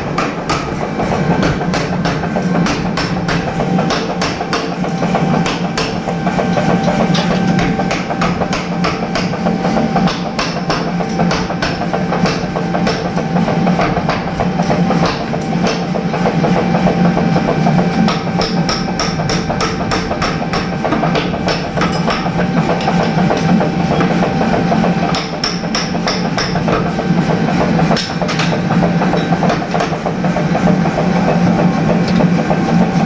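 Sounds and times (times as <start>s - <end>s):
power hammer striking: 0.0s - 16.6s, 17.4s - 30.8s.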